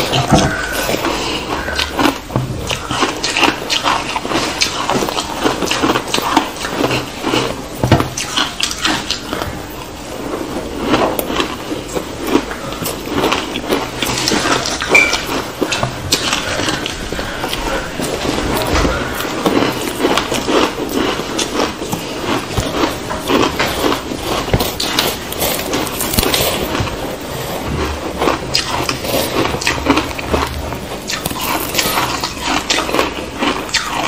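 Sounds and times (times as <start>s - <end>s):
crunching and chewing ice: 0.0s - 34.0s.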